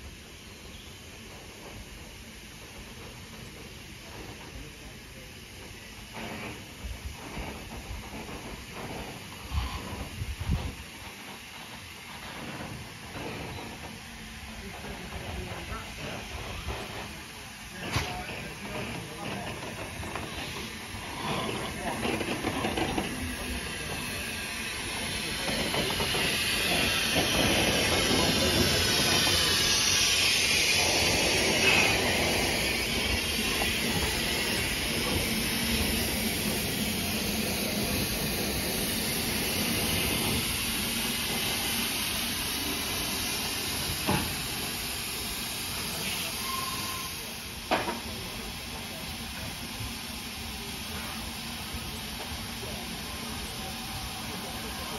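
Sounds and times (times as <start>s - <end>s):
steam hissing from locomotive: 0.0s - 54.9s.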